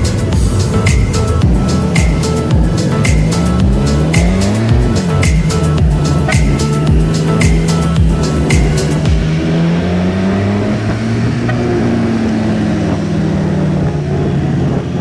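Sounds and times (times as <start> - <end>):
background music beats: 0.0 - 12.8
motorcycle engine running: 0.0 - 15.0
wind and road noise: 0.0 - 15.0.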